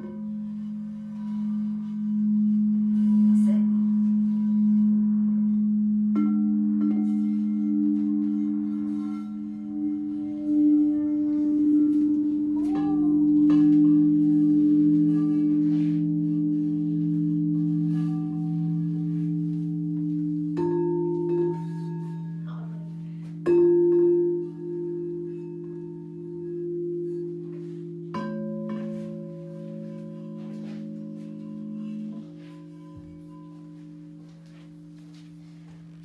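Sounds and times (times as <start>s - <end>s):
crystal singing bowls ringing: 0.0s - 36.0s.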